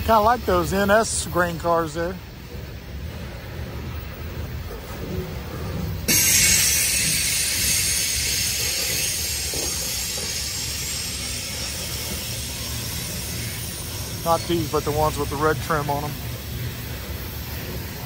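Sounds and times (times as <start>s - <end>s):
train wheels rumbling on rails: 0.0s - 18.0s
high steel-wheel squeal: 2.9s - 18.0s.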